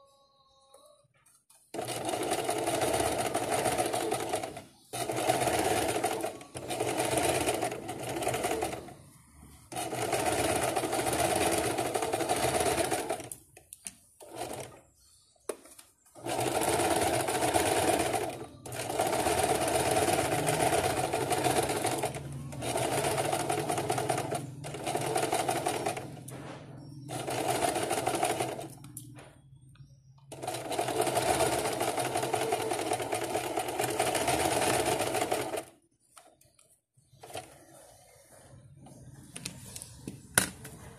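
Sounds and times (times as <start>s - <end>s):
sewing machine stitching: 1.6s - 13.4s, 14.2s - 14.8s, 16.1s - 29.3s, 30.2s - 35.8s, 37.2s - 39.6s.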